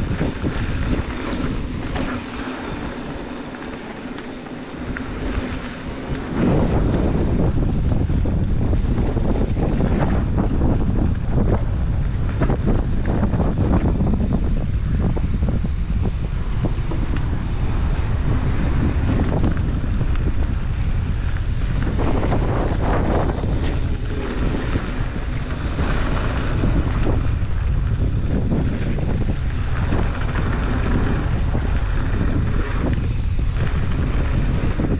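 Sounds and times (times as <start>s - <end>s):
bike tyres rumbling: 0.0s - 34.9s
wind buffeting microphone: 0.0s - 34.9s.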